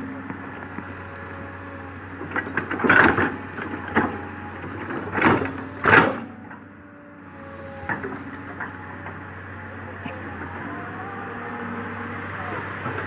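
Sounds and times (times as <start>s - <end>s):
excavator engine humming: 0.0s - 13.0s.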